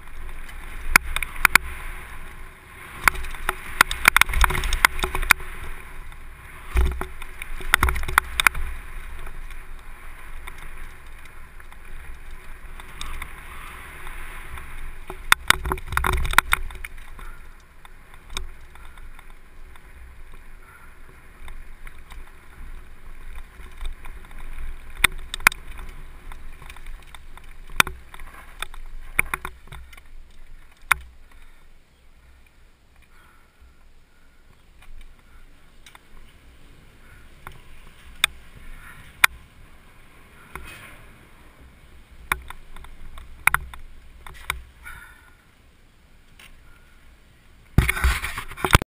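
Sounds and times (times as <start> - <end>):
bike clattering over bumps: 0.0 - 31.6, 34.8 - 45.4, 47.7 - 48.8
bike tyre noise: 0.0 - 48.8.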